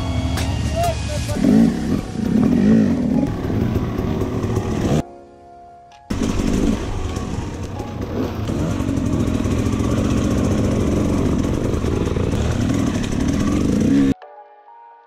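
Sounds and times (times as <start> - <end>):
dirt bike engine running: 0.0 - 5.0, 6.1 - 14.2.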